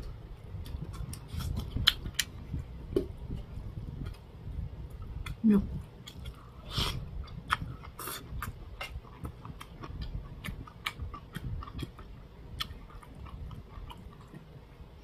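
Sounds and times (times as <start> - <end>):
person chewing food: 0.4 - 4.2, 4.9 - 14.6.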